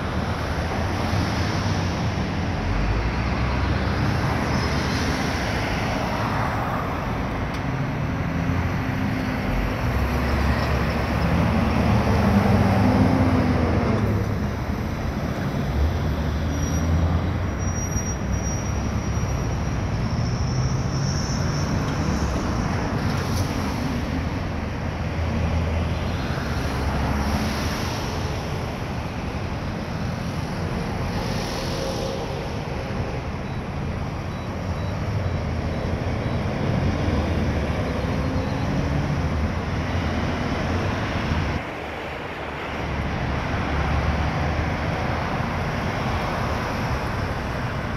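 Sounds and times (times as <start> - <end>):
road traffic passing: 0.0 - 47.9.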